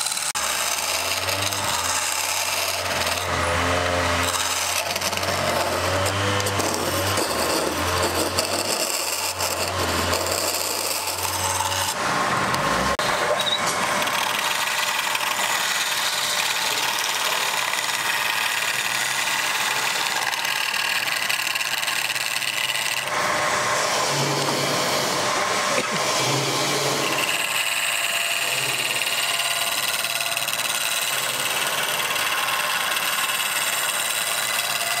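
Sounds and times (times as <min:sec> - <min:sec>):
lathe motor hum: 0:00.0 - 0:35.0
turning tool scraping wood: 0:00.0 - 0:35.0.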